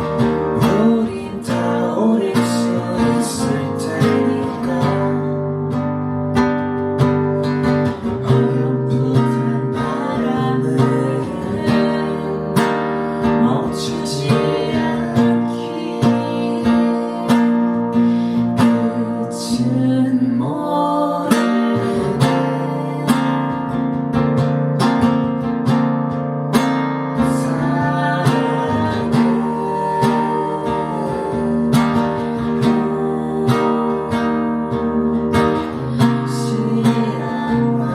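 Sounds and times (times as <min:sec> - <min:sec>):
acoustic guitar strumming: 0:00.0 - 0:37.9.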